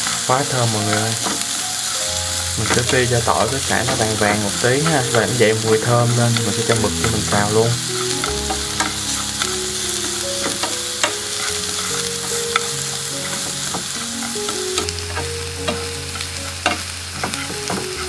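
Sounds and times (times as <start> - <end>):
food sizzling in hot oil: 0.0 - 18.0
chopsticks clicking against pan: 0.2 - 18.0.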